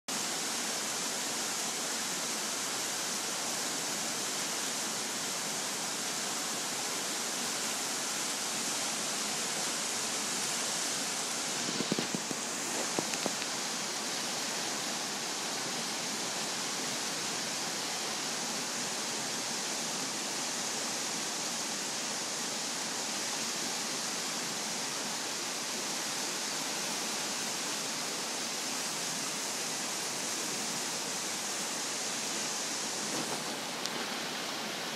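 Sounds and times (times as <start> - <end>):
creek rushing white water: 0.1 - 34.9.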